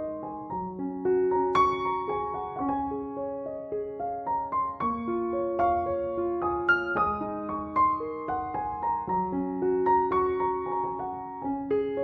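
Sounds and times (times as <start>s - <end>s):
slow soft solo piano: 0.0s - 12.0s.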